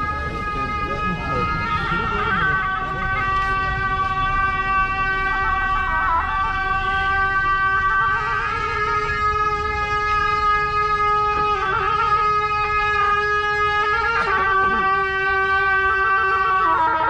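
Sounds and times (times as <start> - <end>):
shawm holding long note: 0.0 - 17.0.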